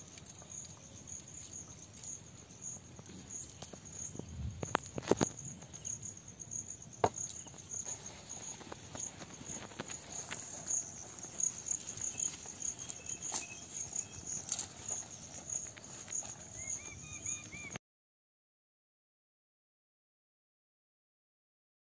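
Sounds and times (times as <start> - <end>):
insects trilling: 0.0 - 17.8.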